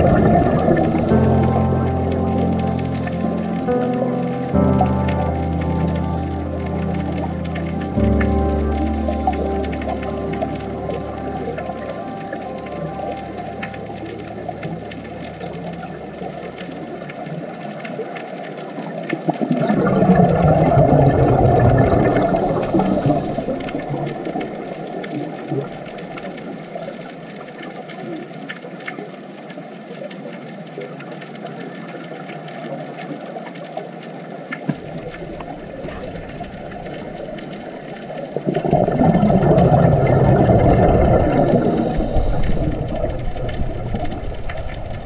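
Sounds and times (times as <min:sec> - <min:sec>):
low underwater rush: 0:00.0 - 0:45.0
underwater hiss and crackling: 0:00.0 - 0:45.0.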